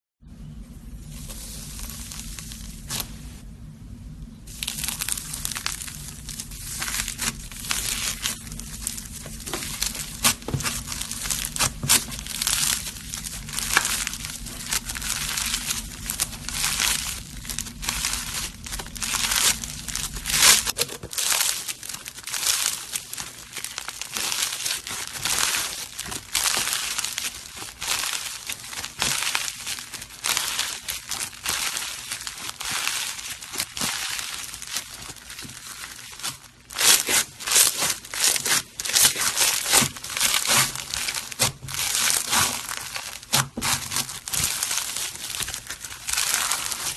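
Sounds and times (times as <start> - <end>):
slime squishing and crackling: 0.9 - 3.4, 4.5 - 46.9.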